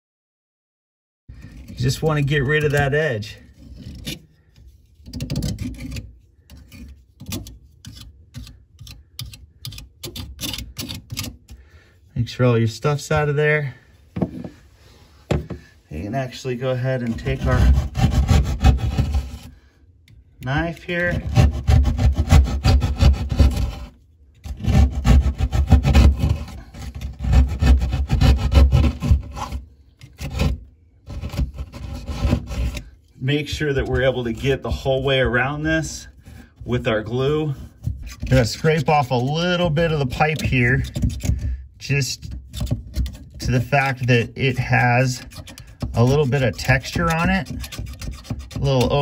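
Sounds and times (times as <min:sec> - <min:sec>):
scraping plastic pipe rim: 0:01.3 - 0:11.8, 0:15.3 - 0:19.7, 0:20.4 - 0:49.0.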